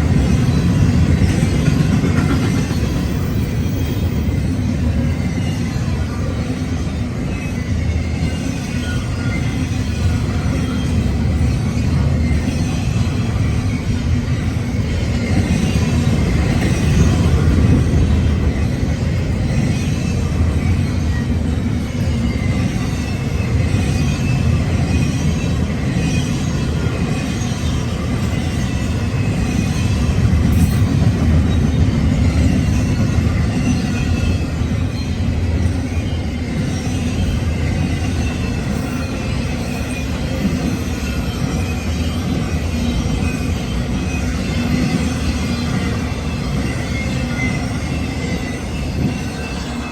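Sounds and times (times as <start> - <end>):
freight train wheels rumbling: 0.0 - 49.9
high wheel squeal: 0.2 - 49.9.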